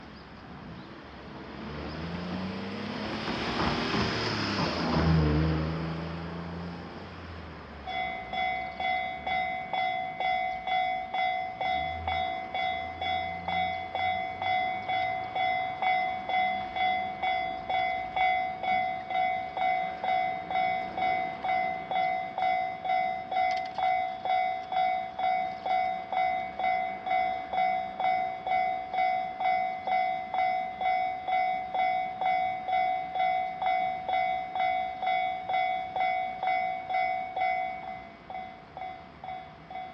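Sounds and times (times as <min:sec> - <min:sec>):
road vehicle passing: 0:00.0 - 0:39.9
level crossing warning bell dinging: 0:07.8 - 0:39.9.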